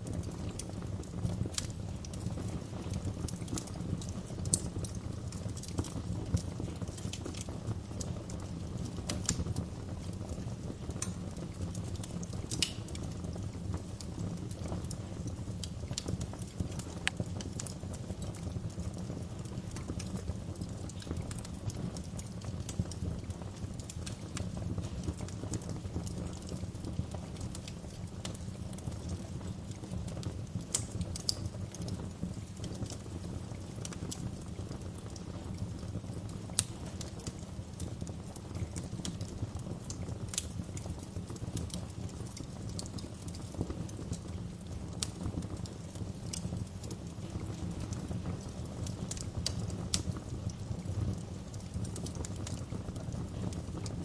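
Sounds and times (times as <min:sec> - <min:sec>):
fireplace fire crackling: 0:00.0 - 0:54.0
low rumble of burning: 0:00.0 - 0:54.0.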